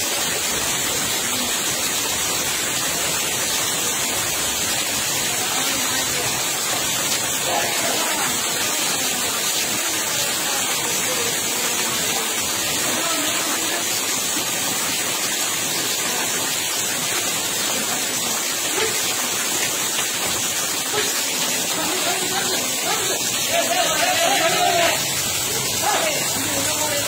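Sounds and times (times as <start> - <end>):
floodwater rushing: 0.0 - 27.0
rain falling on water: 0.0 - 27.0.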